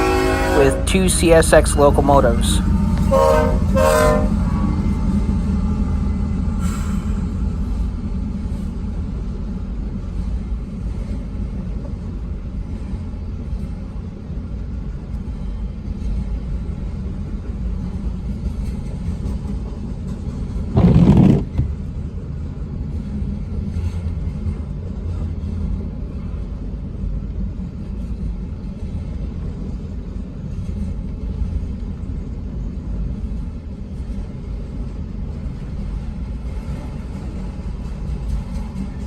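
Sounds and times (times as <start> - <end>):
freight train rolling past: 0.0 - 39.0.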